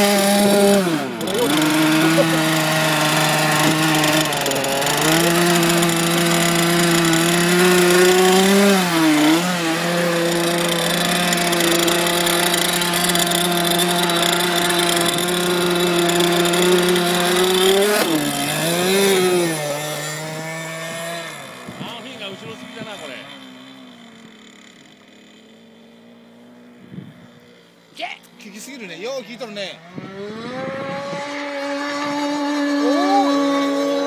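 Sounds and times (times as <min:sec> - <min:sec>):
small two-stroke boat engine: 0:00.0 - 0:34.0.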